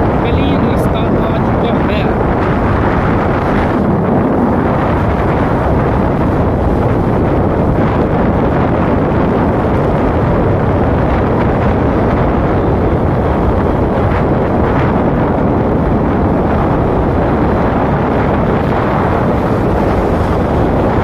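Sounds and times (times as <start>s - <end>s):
road noise: 0.0s - 21.0s
wind rushing on microphone: 0.0s - 21.0s.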